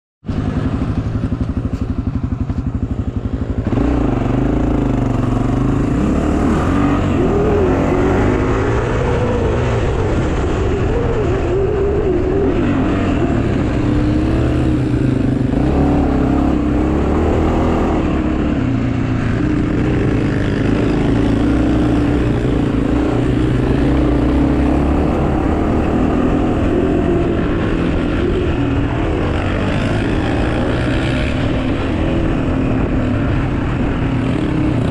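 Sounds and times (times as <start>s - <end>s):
pit bike engine revving: 1.3s - 18.6s, 19.2s - 34.9s.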